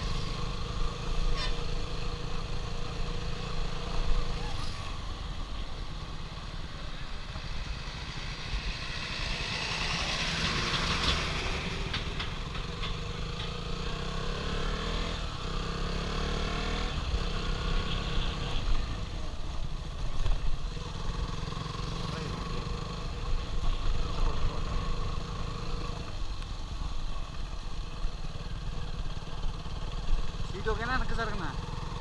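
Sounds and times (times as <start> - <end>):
motorcycle engine running: 0.0 - 32.0
road noise: 0.0 - 32.0.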